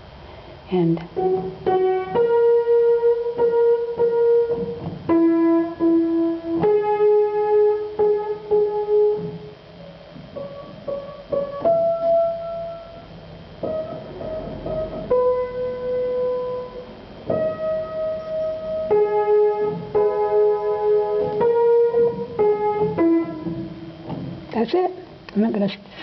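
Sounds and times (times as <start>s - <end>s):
upright piano notes and chords: 1.0s - 25.3s.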